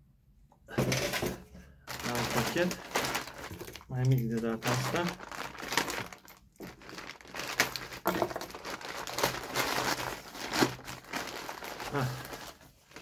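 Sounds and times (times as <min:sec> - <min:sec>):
packaging ripping: 0:01.9 - 0:13.0
parcel packaging crinkling: 0:01.9 - 0:13.0.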